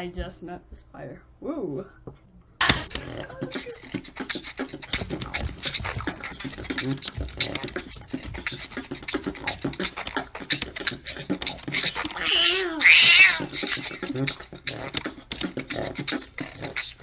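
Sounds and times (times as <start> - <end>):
person beatboxing: 2.6 - 17.0.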